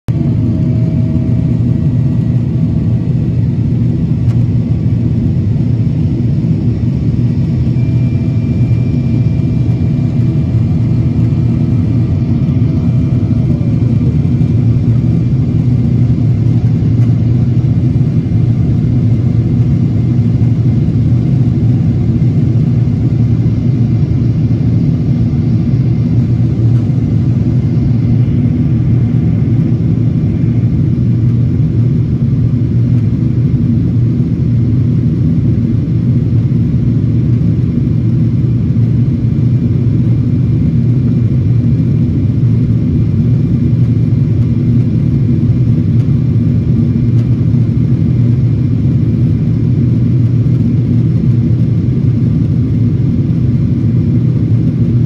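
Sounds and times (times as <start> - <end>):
airplane cabin engine roar: 0.1 - 55.0.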